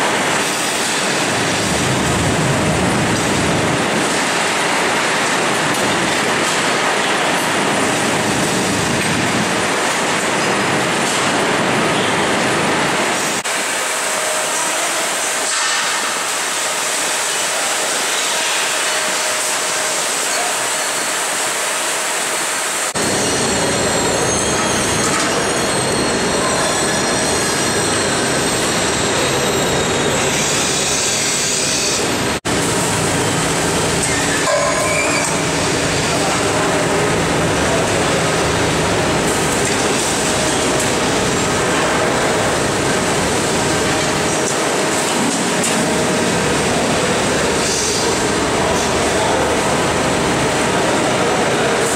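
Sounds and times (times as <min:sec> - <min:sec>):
milking machinery running: 0:00.0 - 0:51.9.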